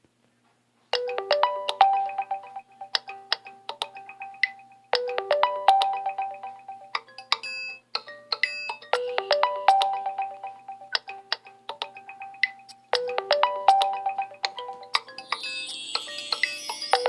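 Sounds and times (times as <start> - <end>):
smartphone ringtone melody: 1.0 - 17.0.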